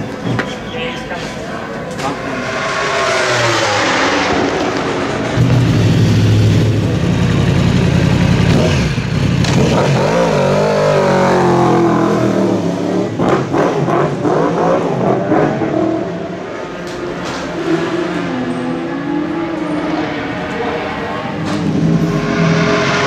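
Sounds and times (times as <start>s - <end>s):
motorcycle engine idling and revving: 2.0s - 23.0s.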